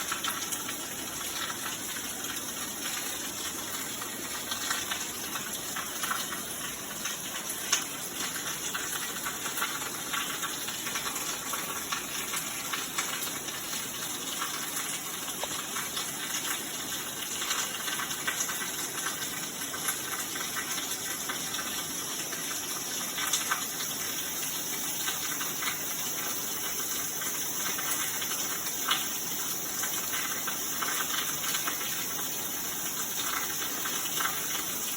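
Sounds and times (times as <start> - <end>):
heavy rain hiss: 0.0 - 34.9.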